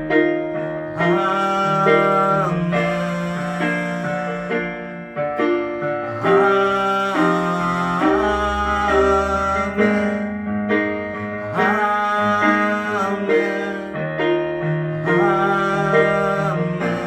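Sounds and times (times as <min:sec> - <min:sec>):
slow worship music on keyboard: 0:00.0 - 0:17.0.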